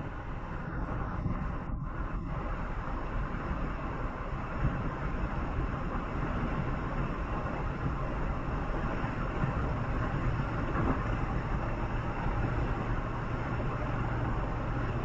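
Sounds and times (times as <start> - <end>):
vehicle driving on highway: 0.0 - 15.0.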